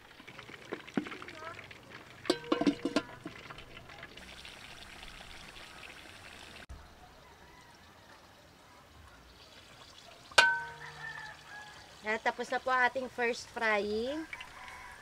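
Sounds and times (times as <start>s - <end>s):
meat deep-frying in oil: 0.0s - 6.7s, 9.3s - 15.0s.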